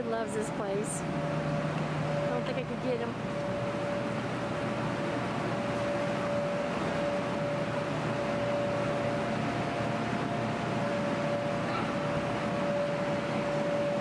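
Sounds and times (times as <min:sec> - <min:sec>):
electric blower fans whirring: 0:00.0 - 0:14.0.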